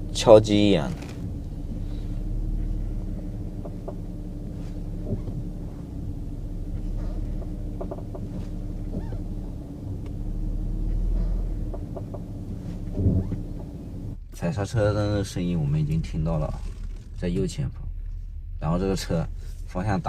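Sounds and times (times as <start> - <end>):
car low rumble: 0.0 - 20.0.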